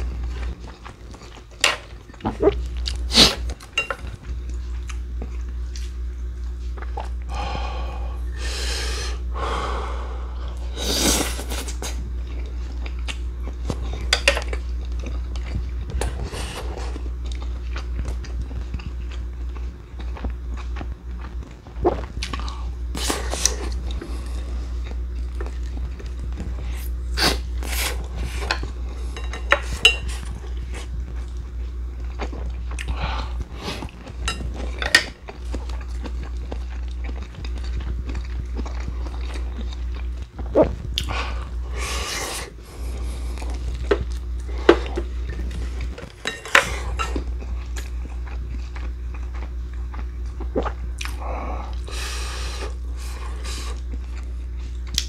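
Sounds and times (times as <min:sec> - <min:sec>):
man chewing: 0:00.0 - 0:55.0
steady low hum: 0:00.0 - 0:55.0.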